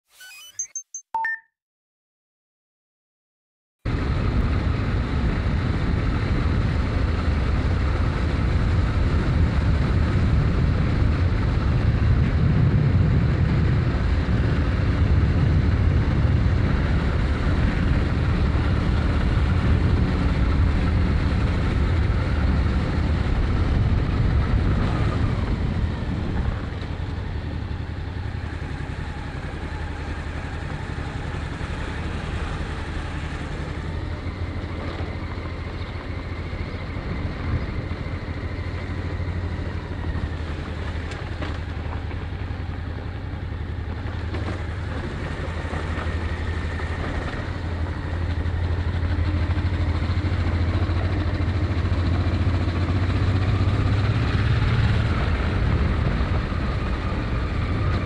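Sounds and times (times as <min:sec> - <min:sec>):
motorcycle engine running: 0:03.9 - 0:58.0.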